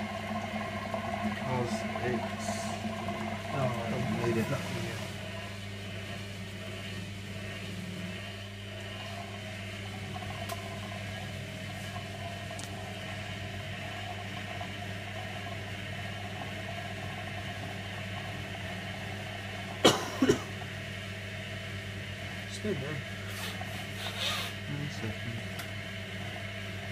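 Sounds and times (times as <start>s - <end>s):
washing machine motor hum: 0.0s - 26.9s.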